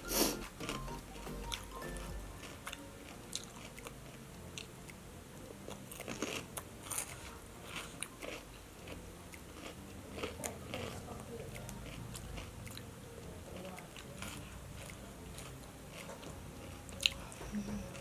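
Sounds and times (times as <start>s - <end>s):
person chewing crispy fried chicken: 0.3s - 12.9s, 13.5s - 18.0s.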